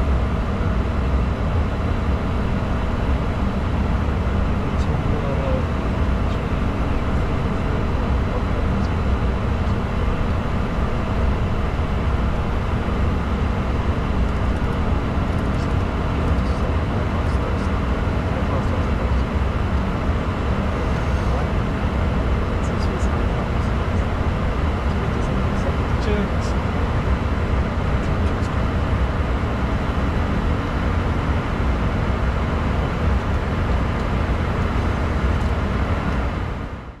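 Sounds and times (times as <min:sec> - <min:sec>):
airflow rushing over aircraft: 0:00.0 - 0:37.0
jet cockpit air and engine noise: 0:00.0 - 0:37.0.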